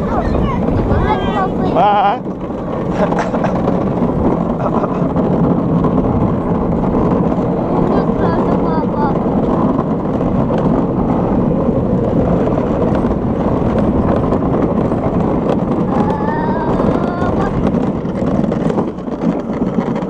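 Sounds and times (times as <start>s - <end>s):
cart wheels rumbling on concrete: 0.0s - 20.0s
rushing air: 0.0s - 20.0s.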